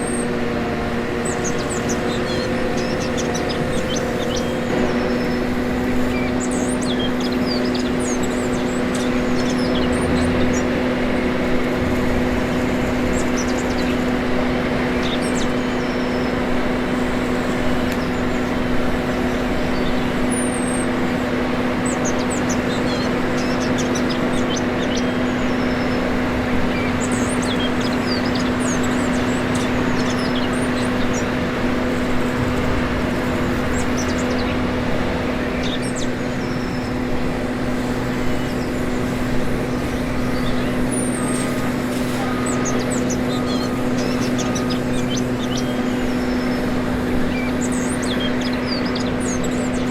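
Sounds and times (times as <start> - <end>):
birds chirping: 0.0 - 49.9
toy machinery mechanical hum: 0.0 - 49.9.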